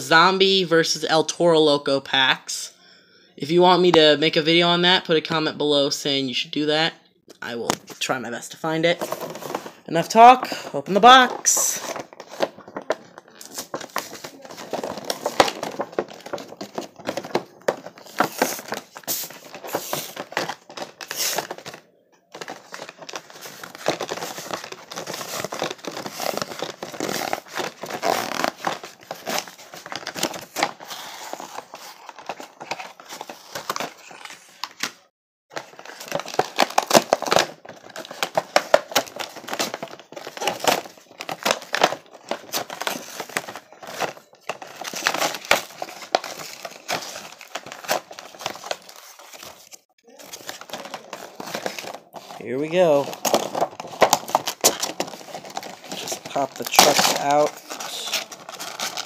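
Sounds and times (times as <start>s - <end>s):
packaging crinkling and tearing: 11.0s - 21.8s, 22.4s - 59.0s.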